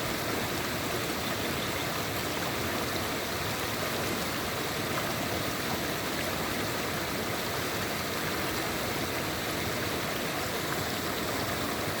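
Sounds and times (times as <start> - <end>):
river stream flowing: 0.0 - 12.0.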